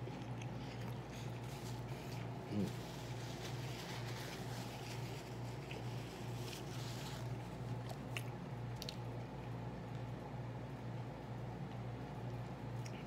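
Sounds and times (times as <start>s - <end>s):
person chewing food: 0.0s - 10.1s, 11.6s - 13.0s
steady low hum: 0.0s - 13.0s.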